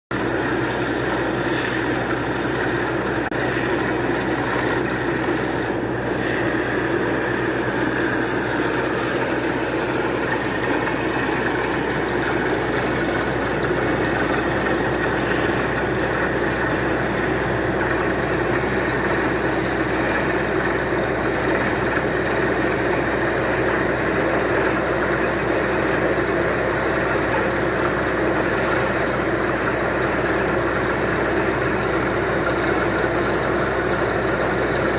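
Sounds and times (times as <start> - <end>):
drilling rig drilling into rock: 0.1 - 34.9.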